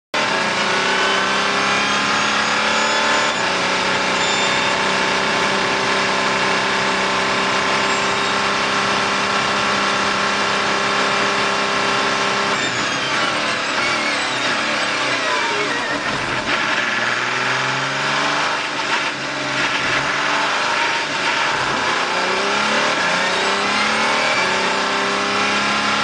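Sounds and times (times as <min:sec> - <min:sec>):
racing engine at full throttle: 0:00.1 - 0:26.0.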